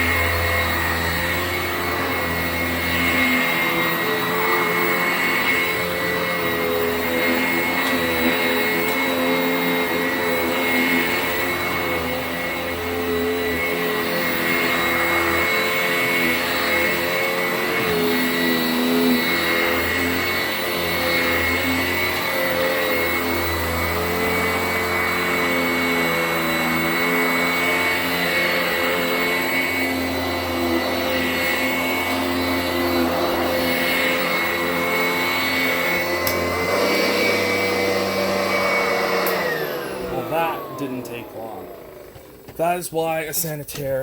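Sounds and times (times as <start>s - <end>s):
upright vacuum running on carpet: 0.0s - 43.2s.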